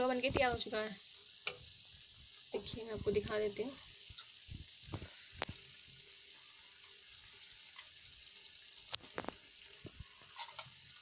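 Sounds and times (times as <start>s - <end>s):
ghee sizzling in pan: 0.0s - 11.0s.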